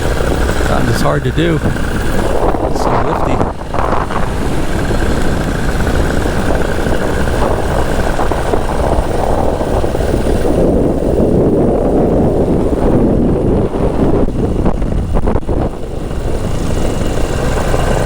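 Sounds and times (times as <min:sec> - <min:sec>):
wind roaring over microphone: 0:00.0 - 0:18.0.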